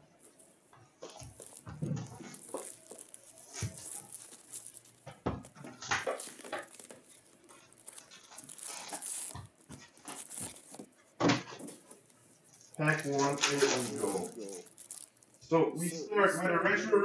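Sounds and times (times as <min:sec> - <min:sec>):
card packs rustling and crinkling: 0:00.9 - 0:16.5.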